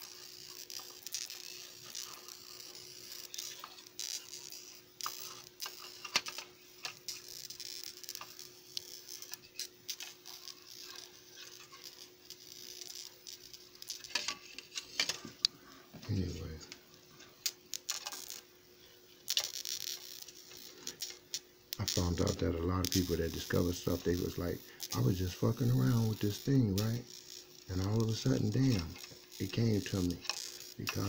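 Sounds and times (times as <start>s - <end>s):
electrical crackling and clicking: 0.0s - 31.0s
steady hum: 0.0s - 31.0s.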